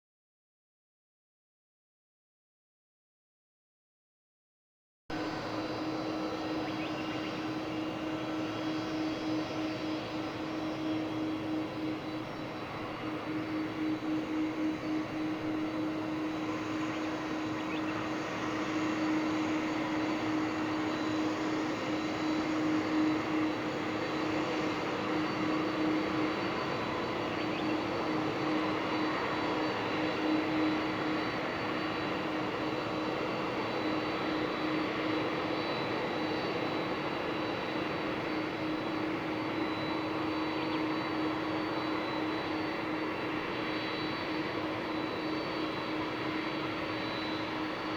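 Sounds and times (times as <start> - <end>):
jet engines running at low power: 5.1 - 47.9.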